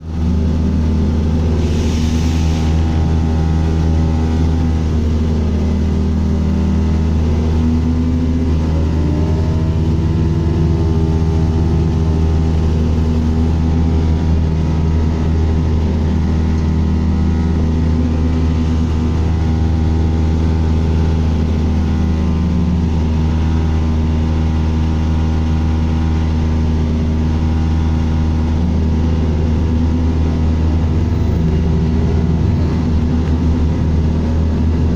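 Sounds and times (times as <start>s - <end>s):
bus engine drone: 0.0s - 34.9s.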